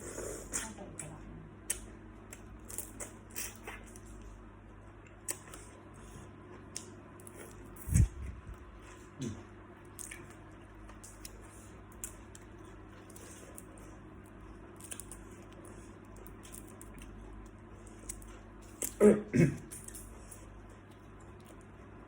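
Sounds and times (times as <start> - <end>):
close eating crackles and squishes: 0.2 - 4.4, 5.0 - 22.0.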